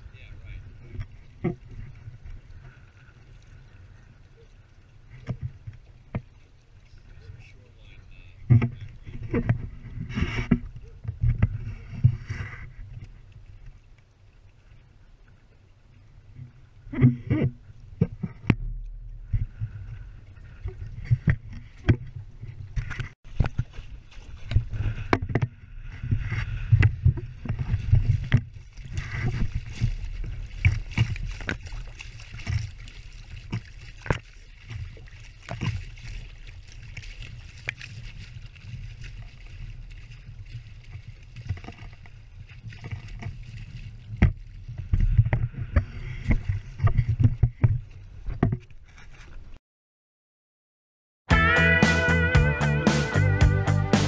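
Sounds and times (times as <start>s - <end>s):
water splashing against hull: 0.0s - 49.6s.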